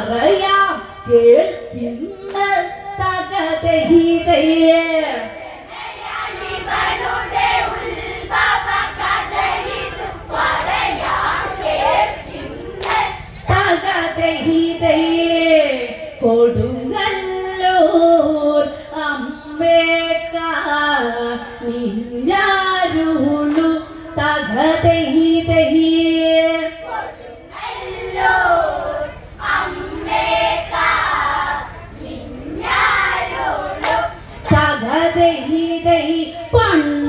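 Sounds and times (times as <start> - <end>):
group of women singing: 0.0 - 37.0.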